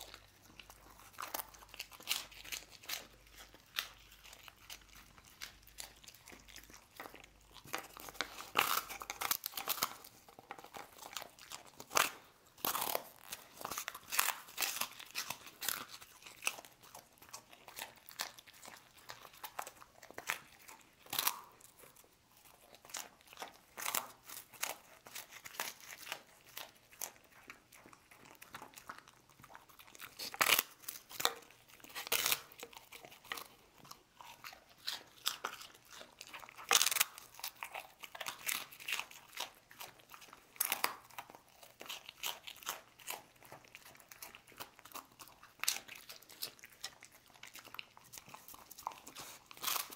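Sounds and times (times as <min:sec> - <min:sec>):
dog chewing crunchy biscuits: 0:00.0 - 0:49.9.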